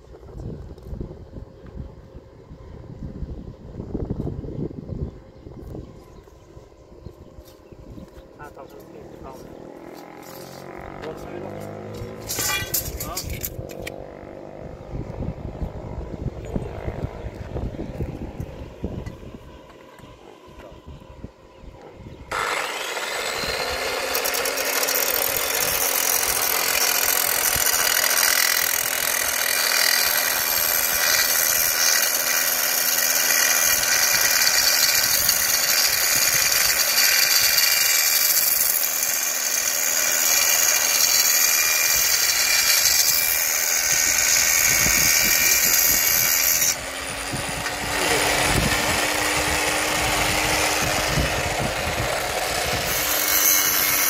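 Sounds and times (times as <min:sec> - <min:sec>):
electric power tool running: 0:07.6 - 0:20.8, 0:22.2 - 0:54.0.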